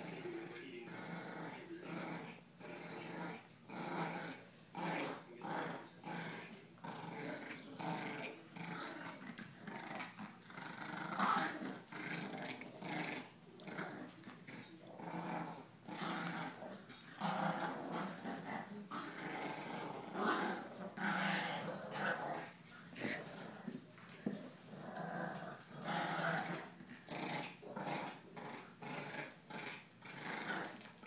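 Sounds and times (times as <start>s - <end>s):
dogs growling in play: 0.0s - 31.0s.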